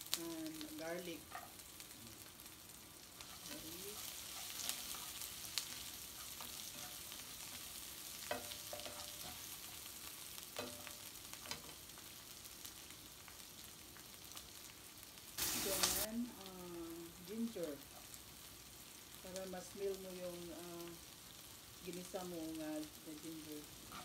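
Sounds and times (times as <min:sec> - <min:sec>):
onion sizzling in oil: 0:00.0 - 0:24.0.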